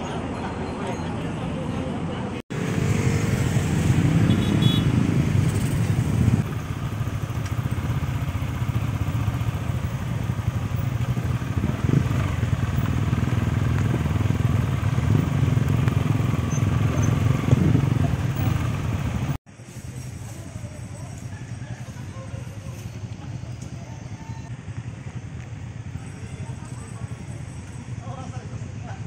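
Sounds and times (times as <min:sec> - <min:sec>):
motorcycle engines droning: 0:00.0 - 0:29.0.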